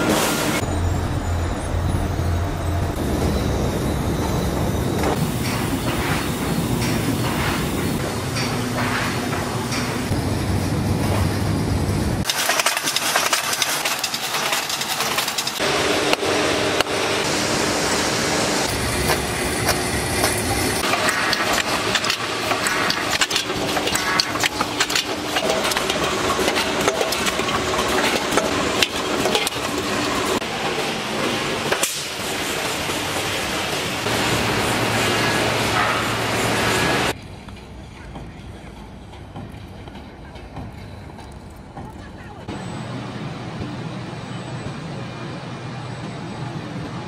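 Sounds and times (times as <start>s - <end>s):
factory machinery clattering: 0.0s - 47.0s
machinery hum: 0.0s - 47.0s.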